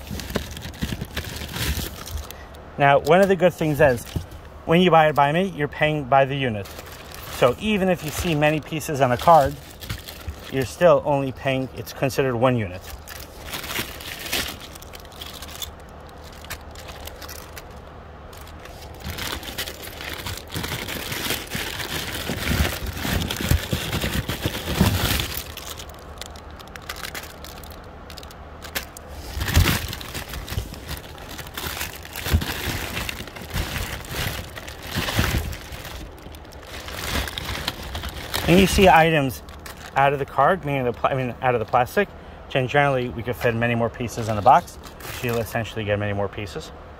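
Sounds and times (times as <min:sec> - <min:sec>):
cardboard and plastic bags rustling: 0:00.0 - 0:42.0, 0:43.2 - 0:45.8.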